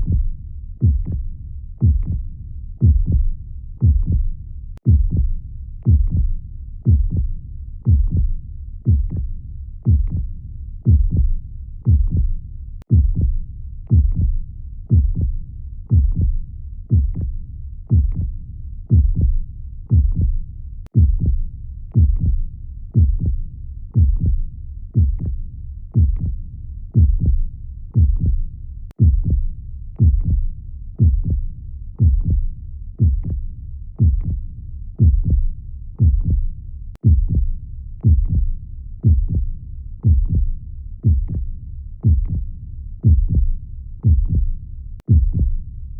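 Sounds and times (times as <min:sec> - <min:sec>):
heartbeat double thump: 0:00.0 - 0:21.4, 0:22.0 - 0:22.4, 0:23.0 - 0:23.4, 0:24.0 - 0:24.4, 0:25.0 - 0:25.4, 0:26.0 - 0:26.4, 0:27.0 - 0:28.4, 0:29.0 - 0:31.4, 0:32.0 - 0:33.4, 0:34.0 - 0:34.4, 0:35.0 - 0:45.6
low rumbling background: 0:00.0 - 0:45.9.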